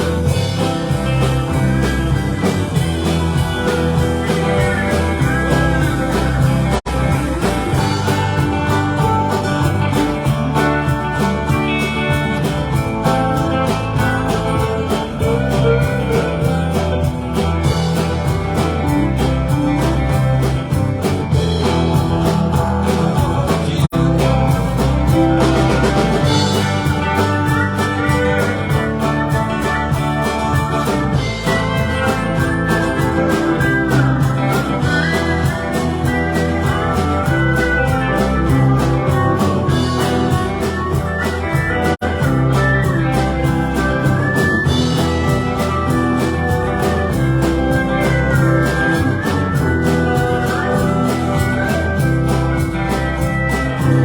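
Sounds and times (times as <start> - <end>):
bass guitar: 0.0 - 54.0
lead guitar with bent notes: 0.0 - 54.0
steady drum beat: 0.0 - 54.0.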